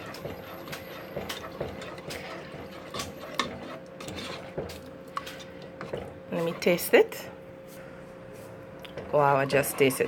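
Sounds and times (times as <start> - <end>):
spoon stirring thick sauce: 0.0 - 7.4, 8.9 - 10.0.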